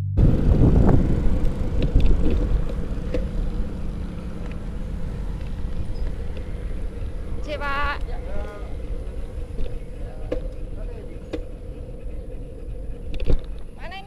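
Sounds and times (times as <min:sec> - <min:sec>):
wind and road rumble: 0:00.0 - 0:14.0.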